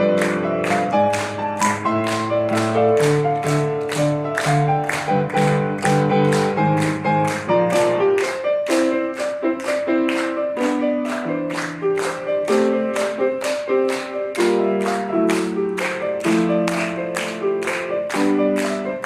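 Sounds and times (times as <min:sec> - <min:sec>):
solo piano playing: 0:00.0 - 0:19.0.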